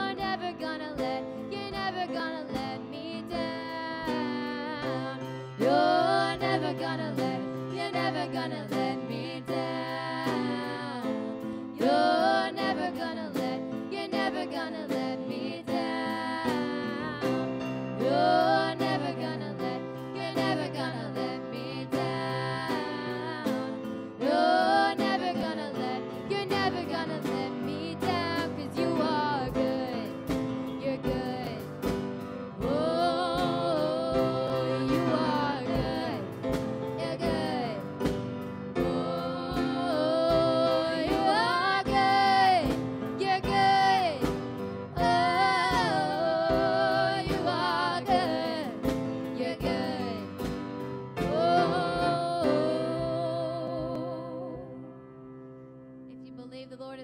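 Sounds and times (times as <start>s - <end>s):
woman singing with vibrato: 0.0s - 31.9s, 32.6s - 38.1s, 38.8s - 50.6s, 51.2s - 54.8s
piano chords: 0.0s - 57.0s
drum kit beat: 5.6s - 52.8s.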